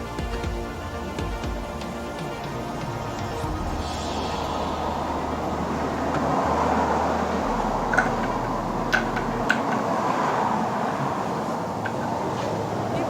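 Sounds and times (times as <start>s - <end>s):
road traffic hum: 0.1s - 13.0s.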